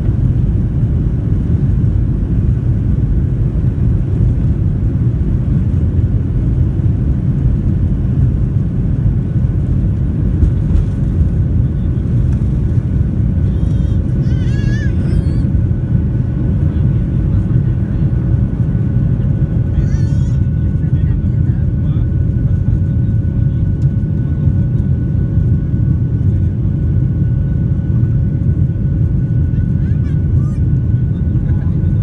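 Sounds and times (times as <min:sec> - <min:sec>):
jet cabin rumble: 0:00.0 - 0:32.0.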